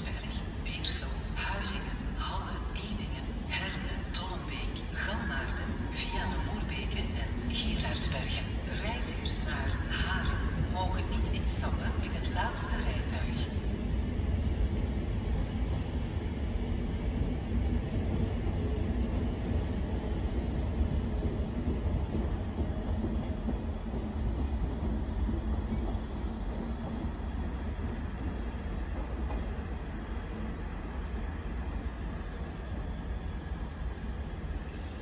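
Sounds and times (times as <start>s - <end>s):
train wheels rumbling on rail: 5.3s - 35.0s.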